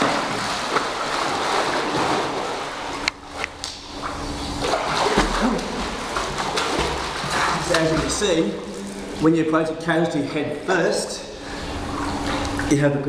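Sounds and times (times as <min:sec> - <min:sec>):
swimmer splashing water: 0:00.0 - 0:13.0.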